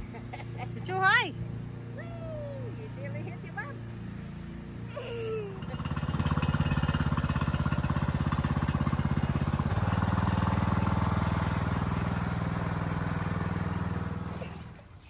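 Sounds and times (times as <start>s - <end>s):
lawn tractor engine running: 0.0s - 2.0s, 2.7s - 15.0s.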